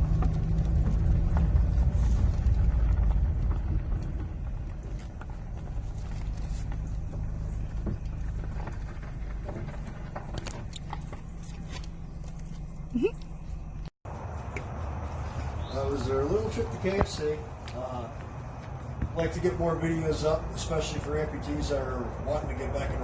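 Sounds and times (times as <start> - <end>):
motor vehicle rumble: 0.0 - 23.0.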